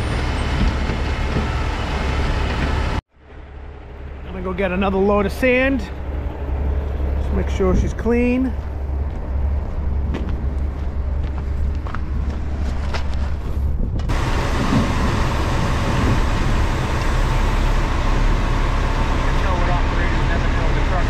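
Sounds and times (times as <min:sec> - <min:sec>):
diesel truck engine rumbling: 0:00.0 - 0:21.0
road and wind noise hiss: 0:00.0 - 0:21.0.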